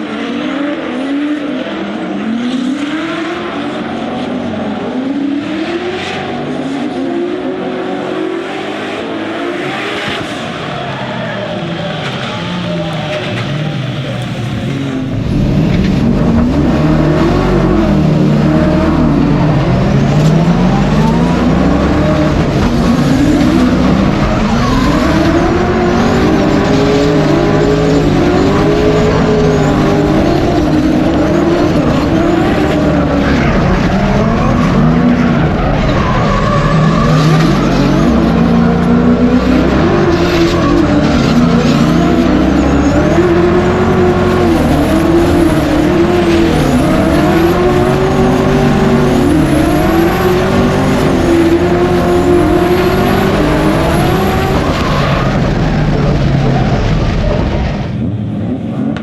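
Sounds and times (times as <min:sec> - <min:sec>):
car engines revving hard: 0:00.0 - 0:59.0
sliding tyres squealing: 0:00.0 - 0:59.0.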